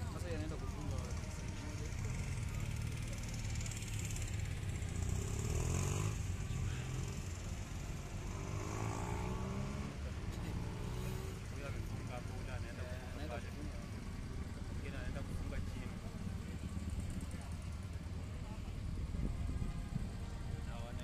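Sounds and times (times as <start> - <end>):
low engine rumble: 0.0 - 21.0
vehicle revving and pulling away: 0.0 - 21.0.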